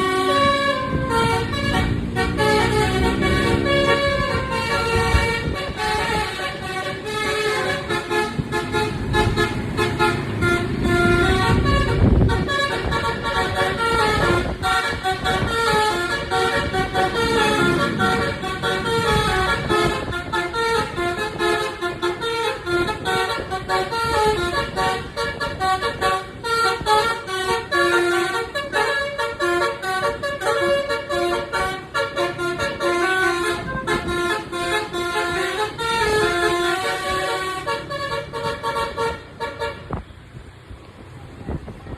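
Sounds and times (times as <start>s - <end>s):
musical air horn playing a tune: 0.0s - 39.9s
bus engine rumbling: 0.0s - 41.9s.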